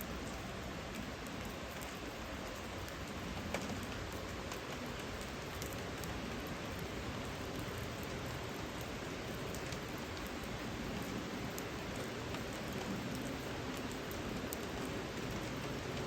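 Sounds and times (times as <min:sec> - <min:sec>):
sharp raindrop ticks: 0:00.0 - 0:16.0
steady rain hiss: 0:00.0 - 0:16.0.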